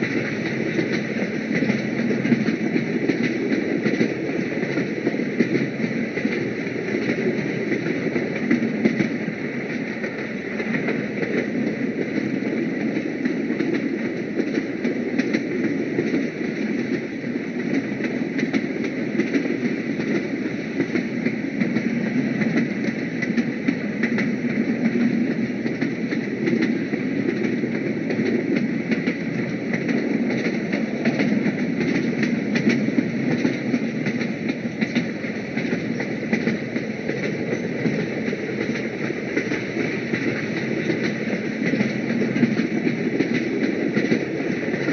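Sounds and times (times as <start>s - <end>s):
train running: 0.0s - 44.9s.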